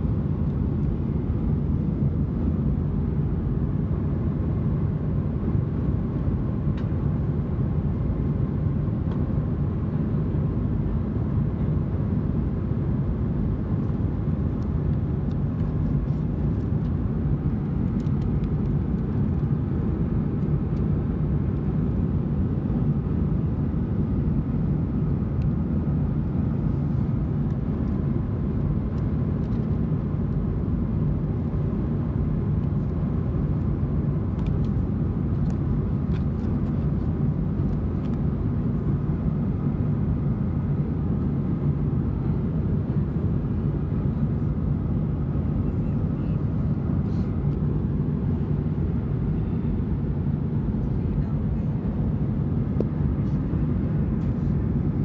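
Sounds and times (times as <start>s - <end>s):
airliner cabin roar: 0.0s - 55.0s.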